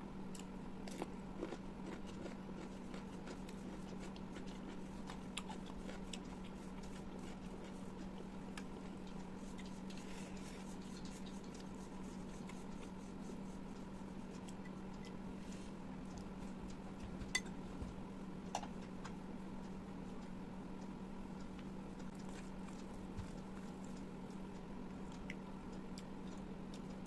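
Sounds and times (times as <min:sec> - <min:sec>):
steady low hum: 0:00.0 - 0:27.0
wet chewing clicks and smacks: 0:00.3 - 0:15.2, 0:16.0 - 0:27.0.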